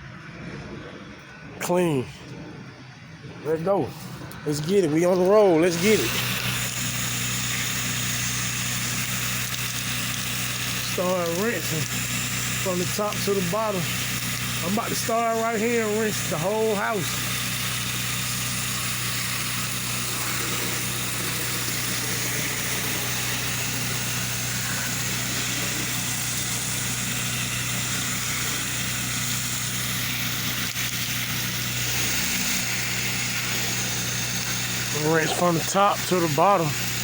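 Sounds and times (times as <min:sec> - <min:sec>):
pressure washer engine hum: 0:03.4 - 0:37.0
water spray hissing: 0:04.0 - 0:37.0.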